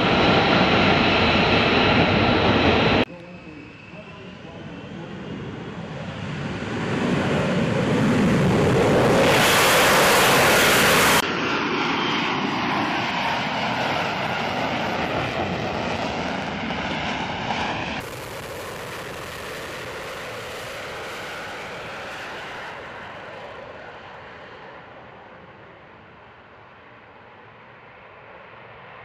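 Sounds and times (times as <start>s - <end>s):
jet engine at high power: 0.0s - 29.0s.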